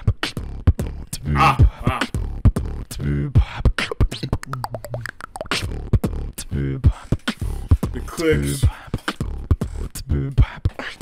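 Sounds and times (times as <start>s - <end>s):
person beatboxing: 0.0s - 11.0s.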